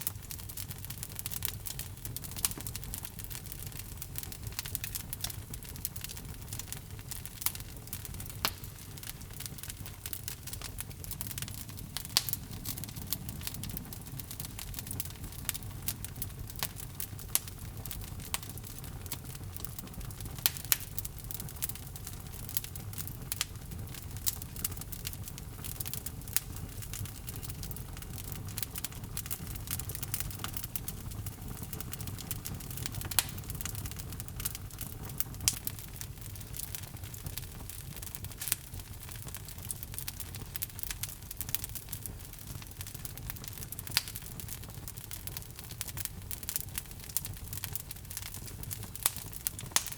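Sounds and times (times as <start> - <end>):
flames rumbling in fireplace: 0.0 - 49.9
logs crackling and popping: 0.0 - 49.9.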